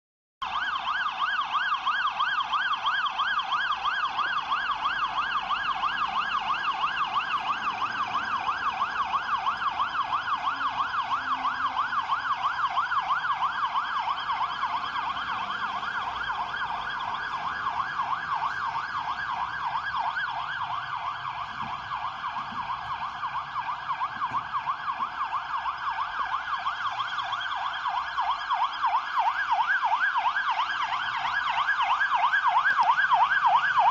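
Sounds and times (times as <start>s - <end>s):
fire engine siren yelping: 0.4s - 33.9s.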